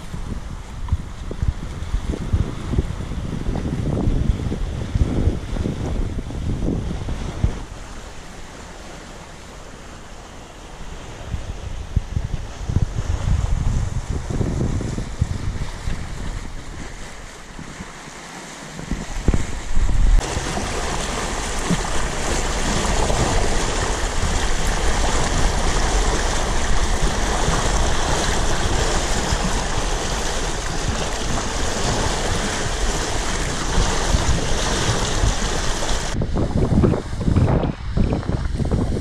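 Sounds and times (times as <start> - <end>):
water splashing along boat hull: 0.0 - 39.0
wind buffeting microphone: 0.0 - 39.0.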